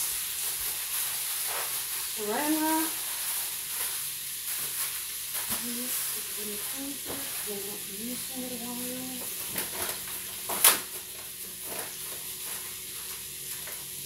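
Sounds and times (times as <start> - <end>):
bacon sizzling: 0.0 - 14.0.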